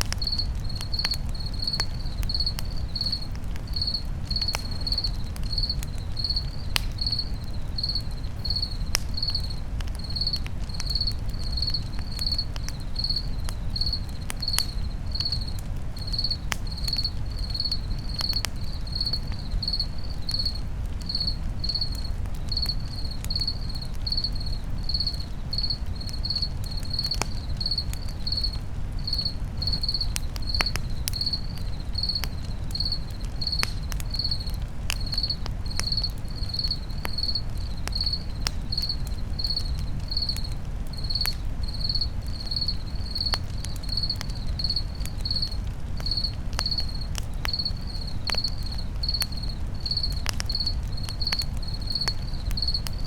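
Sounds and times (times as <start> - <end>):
campfire crackling: 0.0 - 53.0
cricket chirping: 0.0 - 53.0.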